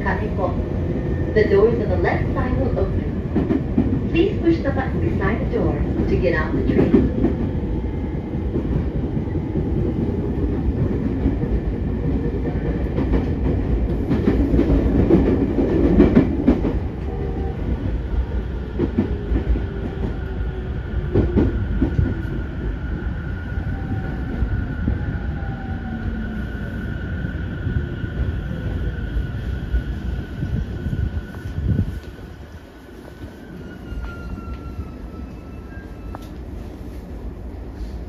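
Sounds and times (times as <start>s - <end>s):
train wheel and body rumble: 0.0s - 38.0s.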